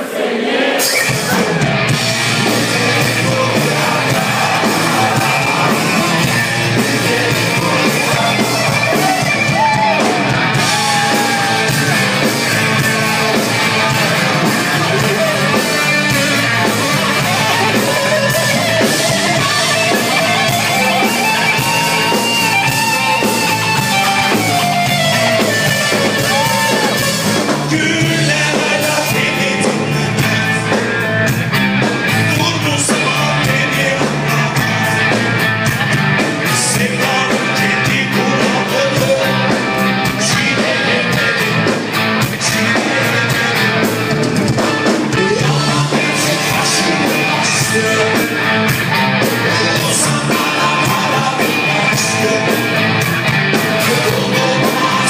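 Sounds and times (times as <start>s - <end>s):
live rock band playing: 0.6s - 55.0s
man singing: 0.8s - 31.4s, 32.0s - 35.3s, 36.4s - 55.0s.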